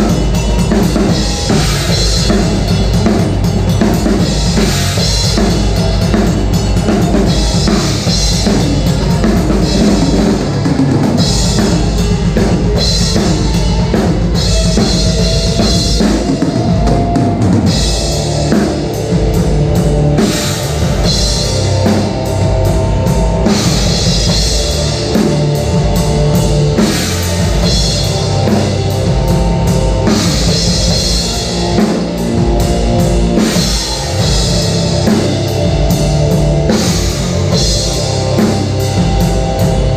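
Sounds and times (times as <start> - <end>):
drum kit playing a beat: 0.0 - 39.9.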